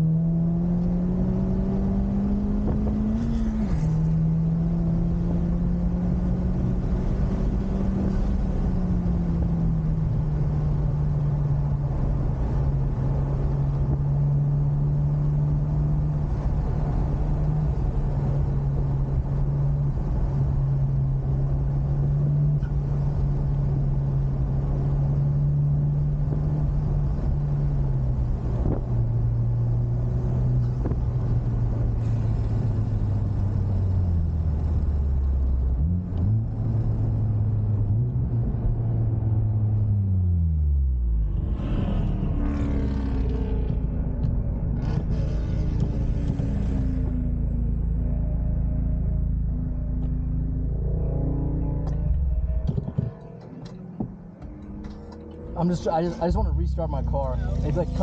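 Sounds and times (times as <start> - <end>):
car engine from inside: 0.0 - 58.0
road noise: 0.0 - 58.0.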